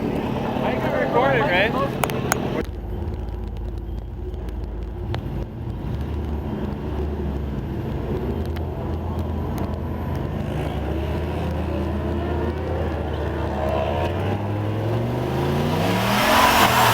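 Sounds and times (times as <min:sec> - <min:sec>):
vehicle engine and road noise: 0:00.0 - 0:16.9.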